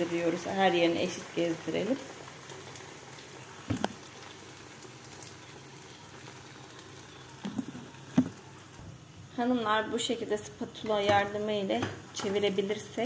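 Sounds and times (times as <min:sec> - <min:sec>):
oil sizzling in frying pan: 0:00.0 - 0:13.0.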